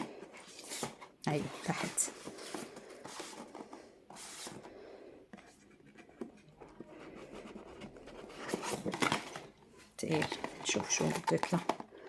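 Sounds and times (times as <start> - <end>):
cardboard scraping and rustling: 0.0 - 4.7, 5.4 - 11.8.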